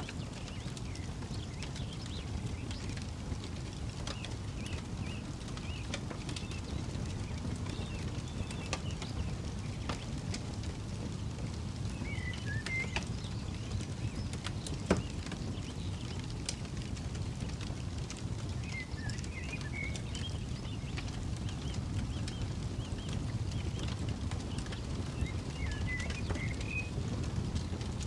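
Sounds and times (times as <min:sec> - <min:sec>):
birds chirping: 0:00.0 - 0:28.0
campfire crackling and popping: 0:00.0 - 0:28.0.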